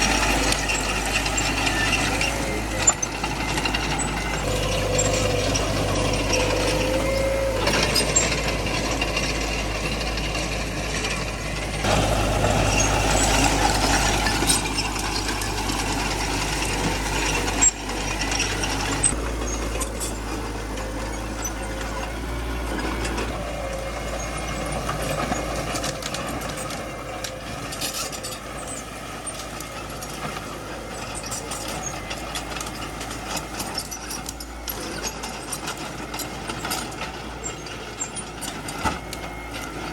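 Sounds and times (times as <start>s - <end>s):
bulldozer diesel engine: 0.0s - 39.9s
metallic clanking and squeaking: 0.0s - 39.9s.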